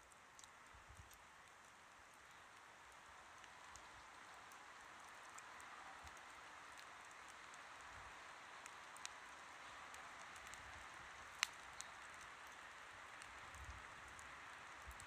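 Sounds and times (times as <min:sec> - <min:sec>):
campfire hissing: 0:00.0 - 0:15.0
faint crackles and pops: 0:00.0 - 0:15.0.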